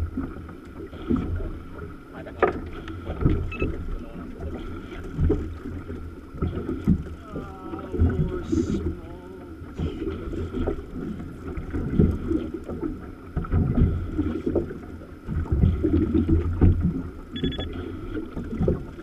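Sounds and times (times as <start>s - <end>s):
water washing around hull: 0.0s - 19.0s.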